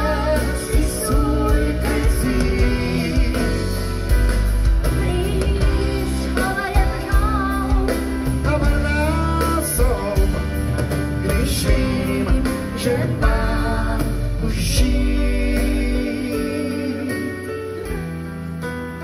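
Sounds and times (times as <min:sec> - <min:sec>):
live big band music: 0:00.0 - 0:19.0.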